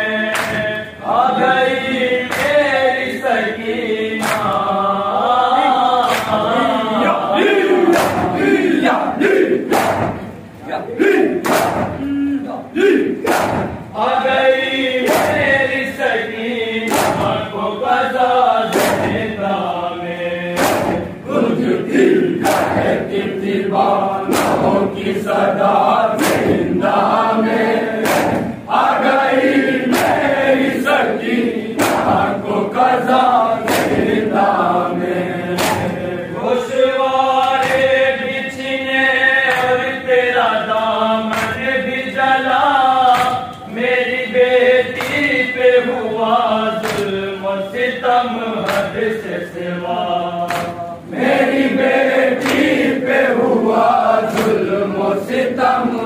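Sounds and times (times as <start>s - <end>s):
men chanting in unison: 0.0s - 56.0s
rhythmic chest slaps: 0.0s - 56.0s.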